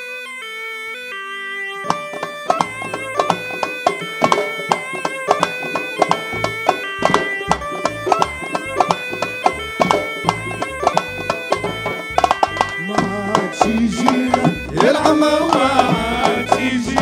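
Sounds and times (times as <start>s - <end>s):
melody line: 1.6s - 17.0s
frame drums and hand drums: 1.9s - 17.0s.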